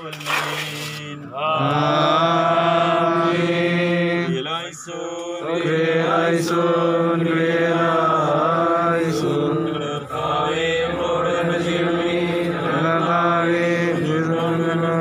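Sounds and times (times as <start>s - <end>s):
men chanting a hymn: 0.5s - 15.0s.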